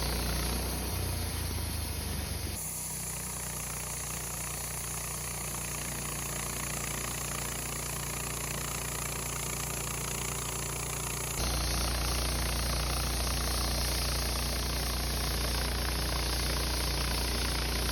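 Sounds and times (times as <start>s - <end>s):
sawmill band saw cutting log: 0.0s - 2.0s, 2.6s - 17.9s.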